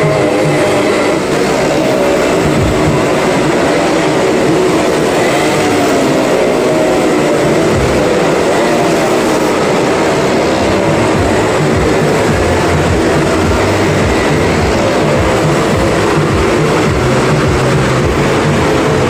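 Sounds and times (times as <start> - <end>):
engines droning at speed: 0.0 - 19.0.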